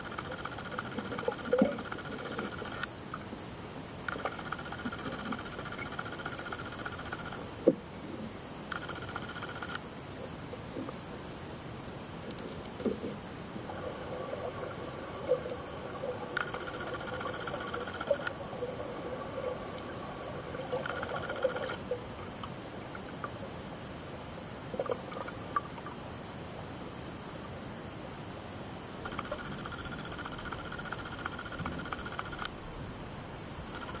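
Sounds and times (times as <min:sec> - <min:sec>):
muffled underwater hiss: 0:00.0 - 0:34.0.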